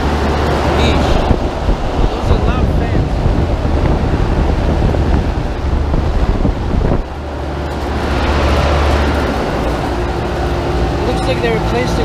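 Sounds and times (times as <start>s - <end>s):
condenser fans running loudly: 0.0s - 12.0s
steady low hum: 0.0s - 12.0s
wind buffeting microphone: 0.0s - 12.0s.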